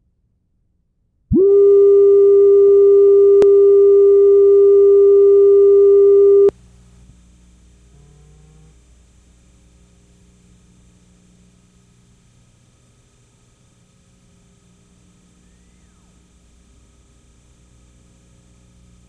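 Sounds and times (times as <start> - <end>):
faint hum: 1.3 - 19.0
loud steady sine tone: 1.3 - 19.0
tape hiss: 1.3 - 19.0.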